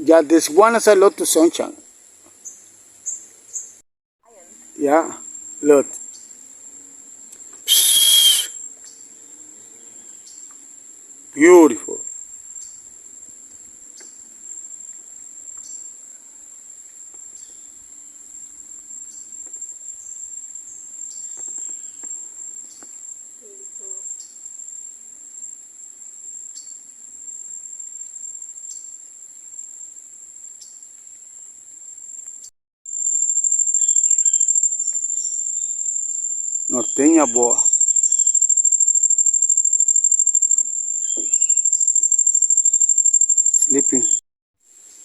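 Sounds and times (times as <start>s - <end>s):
insect chorus drone: 0.0s - 45.0s.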